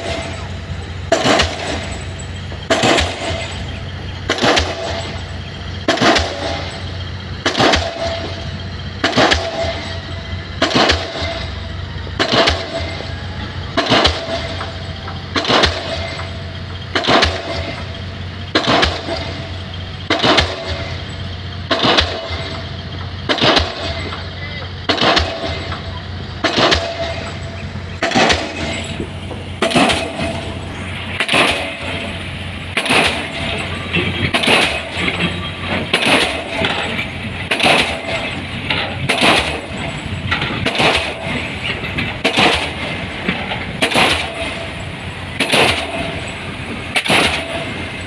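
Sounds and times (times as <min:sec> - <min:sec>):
pile hammer banging: 0:00.0 - 0:21.1, 0:21.7 - 0:48.0
low engine hum: 0:00.0 - 0:48.0.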